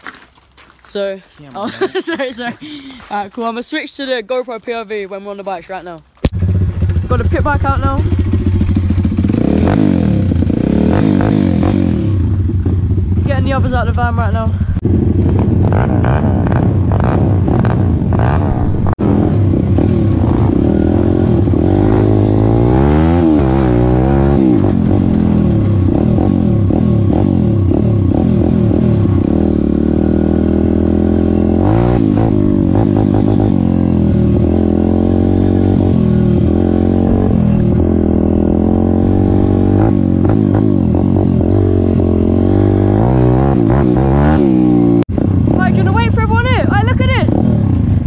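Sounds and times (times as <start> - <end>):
motorbike engine revving: 6.3 - 48.0.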